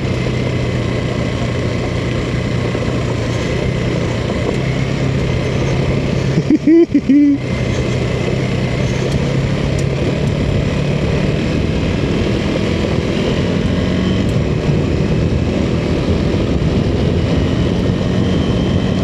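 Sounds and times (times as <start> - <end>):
motorcycle engine running: 0.0 - 19.0
tyres on dirt track: 0.0 - 19.0
wind rumble: 0.0 - 19.0.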